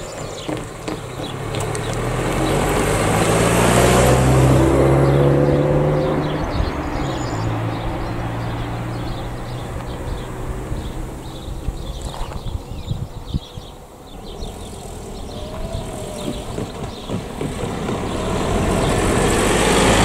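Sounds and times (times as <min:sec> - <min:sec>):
car passing by: 0:00.0 - 0:12.4, 0:14.1 - 0:20.0.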